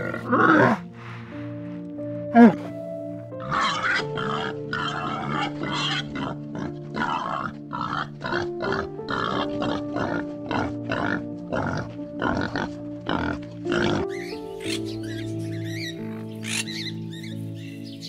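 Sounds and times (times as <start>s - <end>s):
young boars grunting: 0.0s - 16.9s
background music with held notes: 0.0s - 18.0s.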